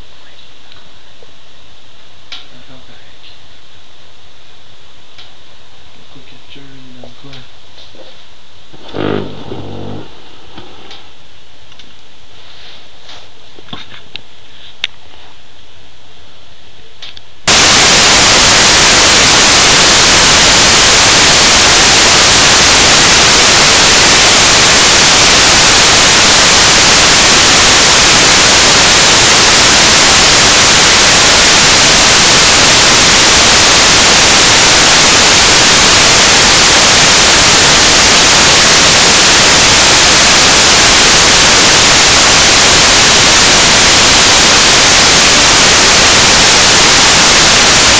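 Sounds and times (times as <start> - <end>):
loud steady static hiss: 0.0 - 47.9.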